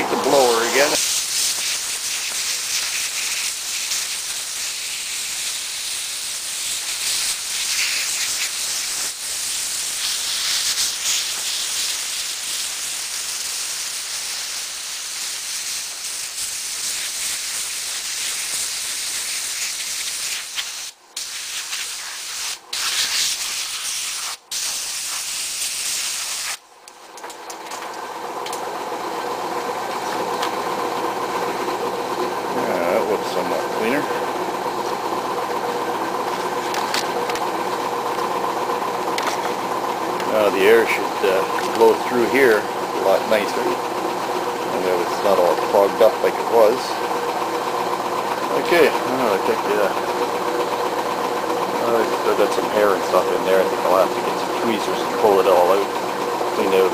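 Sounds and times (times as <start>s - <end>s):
motor humming: 0.0s - 20.9s, 26.8s - 56.9s
air blower jet hissing: 0.0s - 26.6s, 30.1s - 56.9s.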